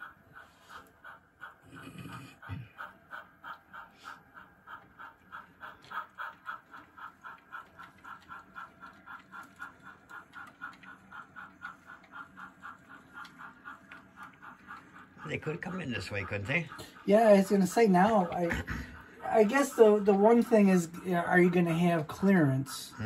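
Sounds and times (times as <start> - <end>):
faint low hum: 0.0 - 23.0
model steam locomotive chuffing: 0.0 - 23.0.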